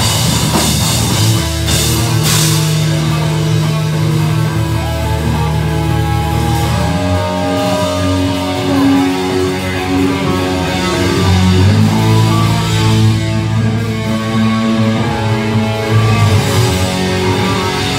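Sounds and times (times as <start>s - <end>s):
heavy metal band playing: 0.0s - 17.9s.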